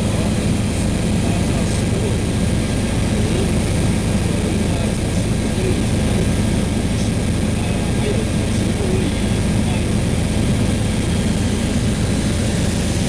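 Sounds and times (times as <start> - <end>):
helicopter engine and rotors drone: 0.0 - 13.0.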